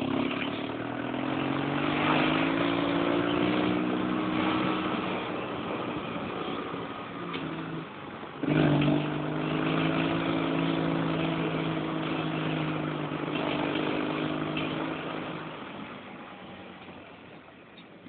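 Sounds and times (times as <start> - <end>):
buggy engine revving: 0.0 - 17.4.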